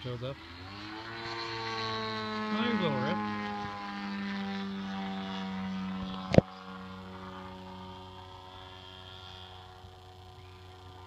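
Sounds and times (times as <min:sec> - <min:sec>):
model airplane engine drone: 0:00.0 - 0:11.0.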